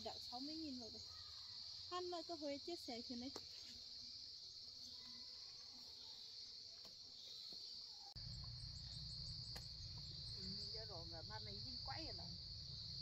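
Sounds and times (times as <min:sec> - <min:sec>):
insect chorus chirring: 0:00.0 - 0:13.0.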